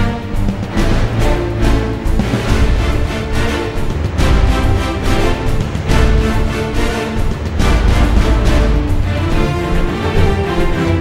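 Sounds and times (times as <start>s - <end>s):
theme music with strong bass: 0.0s - 11.0s.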